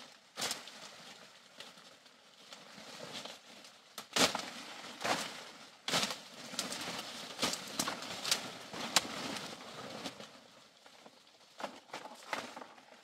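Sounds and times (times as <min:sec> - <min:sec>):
leaves and twigs rustling and crackling: 0:00.0 - 0:13.0.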